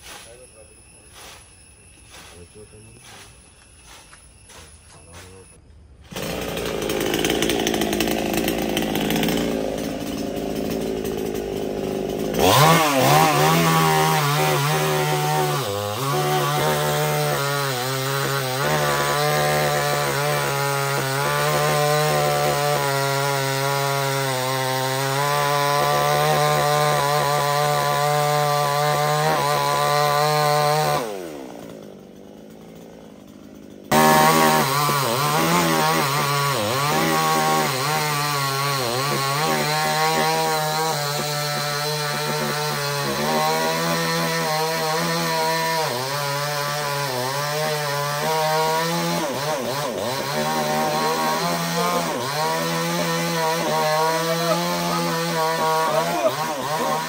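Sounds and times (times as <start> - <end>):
chainsaw cutting wood: 6.0 - 57.0.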